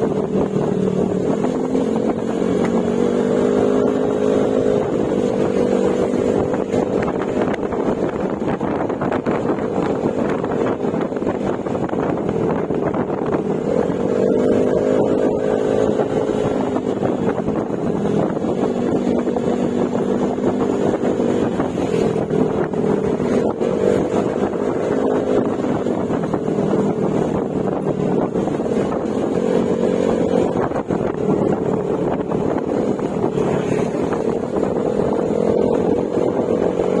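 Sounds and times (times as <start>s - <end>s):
scooter engine running: 0.0s - 37.0s.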